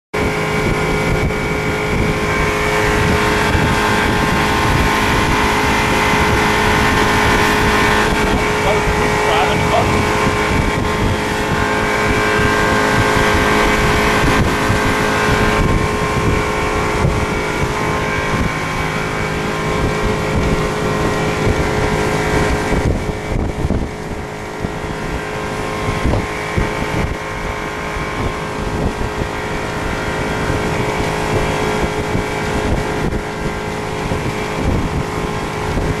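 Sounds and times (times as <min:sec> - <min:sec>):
boat engine running: 0:00.2 - 0:36.0
wind buffeting microphone: 0:00.2 - 0:36.0.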